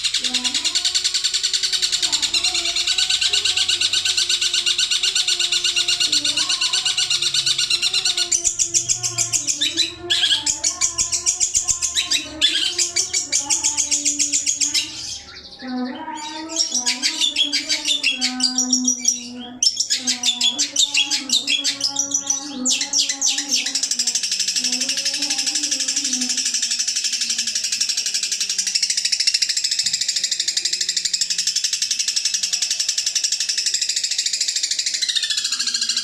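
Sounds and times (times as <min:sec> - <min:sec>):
songbird chattering and trilling: 0:00.0 - 0:36.0.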